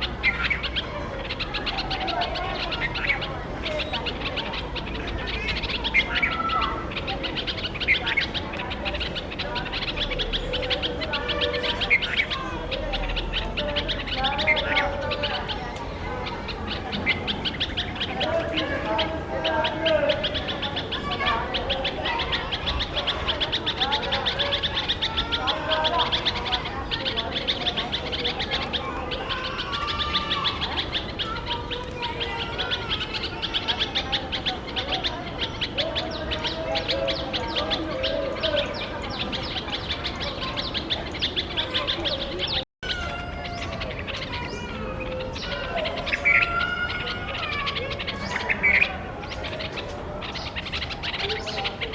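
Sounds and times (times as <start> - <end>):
lower wavering bird calls: 0.0 - 51.9.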